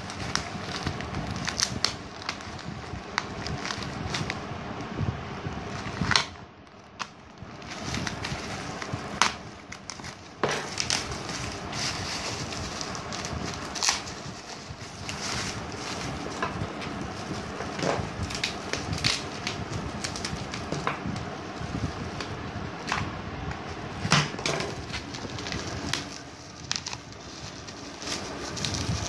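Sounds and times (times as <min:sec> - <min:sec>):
plastic bag and bubble wrap crinkling: 0:00.0 - 0:04.5, 0:05.6 - 0:23.1, 0:23.9 - 0:29.0.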